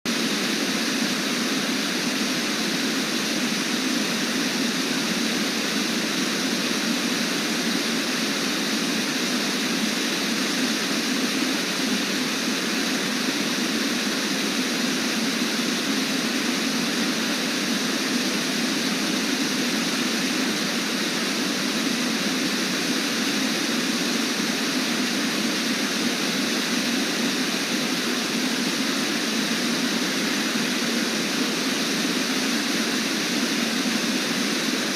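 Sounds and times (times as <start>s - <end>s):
waterfall roaring: 0.1s - 34.9s.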